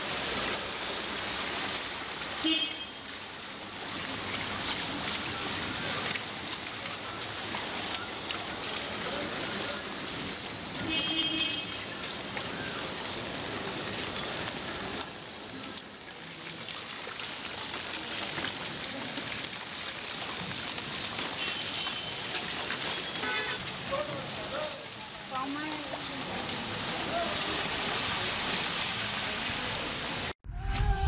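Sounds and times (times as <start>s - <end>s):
people wading through water: 0.0s - 30.3s
rain falling on flooded street: 0.0s - 30.4s.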